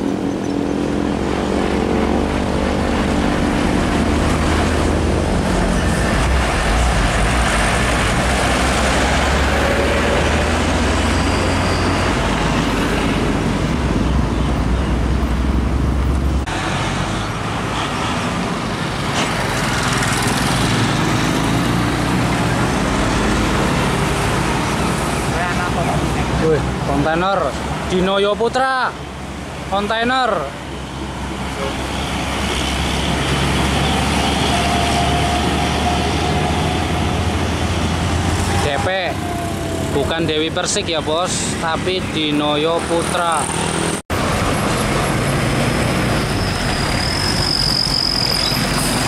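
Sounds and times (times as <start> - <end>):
diesel trucks passing: 0.0 - 49.0
motorcycles passing: 0.0 - 49.0.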